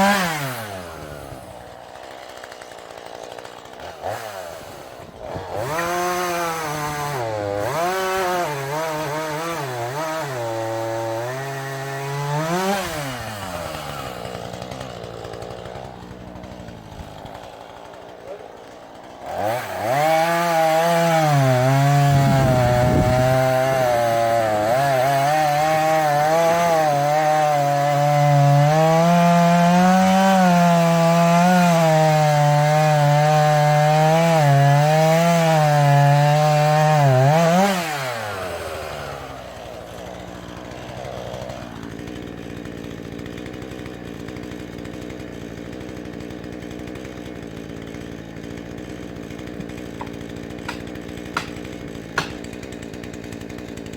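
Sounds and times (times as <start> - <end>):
chainsaw cutting wood: 0.0 - 53.9
chainsaw idling: 0.0 - 53.9.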